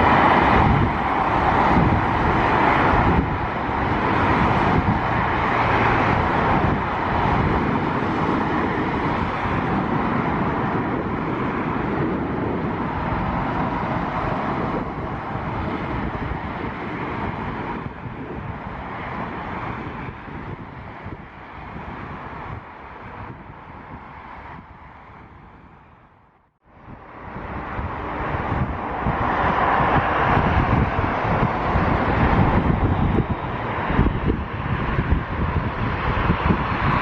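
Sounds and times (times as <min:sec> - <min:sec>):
jet airliner engines passing: 0:00.0 - 0:37.0.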